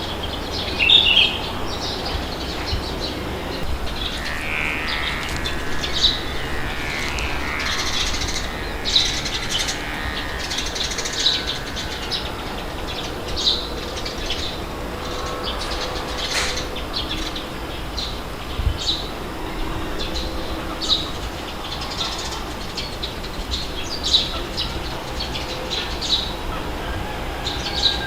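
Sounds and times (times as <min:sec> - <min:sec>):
wind rushing: 0:00.0 - 0:24.1
small birds chirping: 0:00.0 - 0:28.0.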